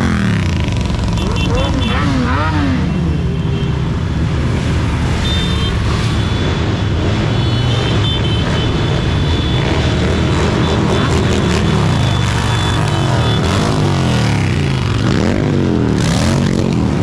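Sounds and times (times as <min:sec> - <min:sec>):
motorcycles riding past: 0:00.0 - 0:17.0.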